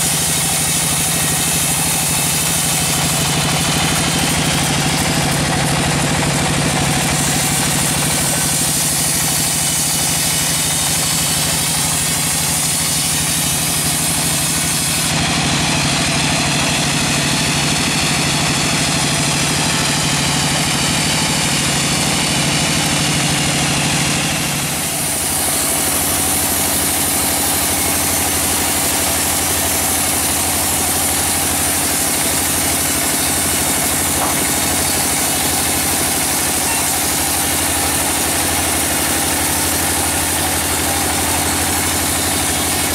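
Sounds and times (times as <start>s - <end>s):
band saw drone: 0.0s - 42.9s.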